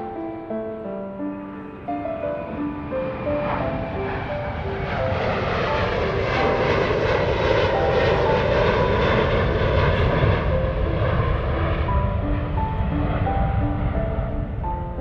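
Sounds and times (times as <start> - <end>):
jet airliner passing overhead: 0.0 - 15.0
soft background music: 0.0 - 15.0.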